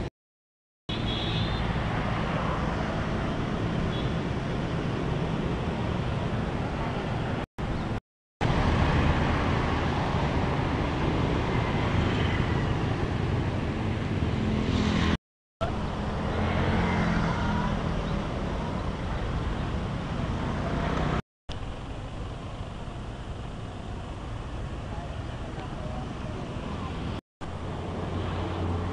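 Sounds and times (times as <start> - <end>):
cars passing on busy street: 0.9 - 28.9.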